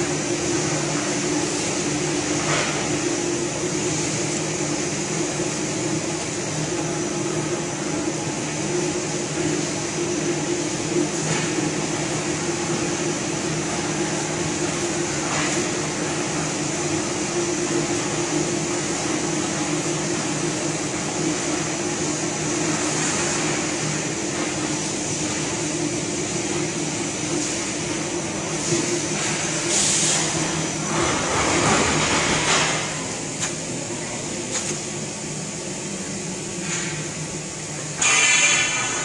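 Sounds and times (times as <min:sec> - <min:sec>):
machine humming with hiss: 0:00.0 - 0:39.0.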